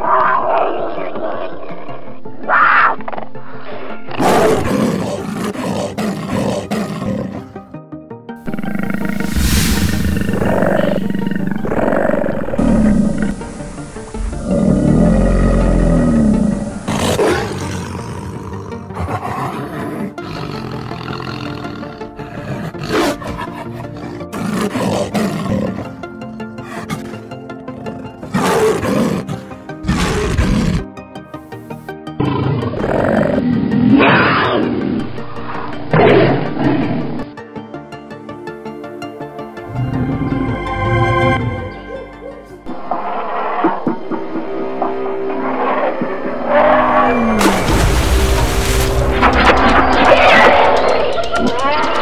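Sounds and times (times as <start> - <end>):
leopard growling and roaring: 0.0 - 7.6, 8.4 - 27.2, 27.8 - 30.9, 32.2 - 37.3, 42.6 - 51.5
background music: 0.0 - 52.0.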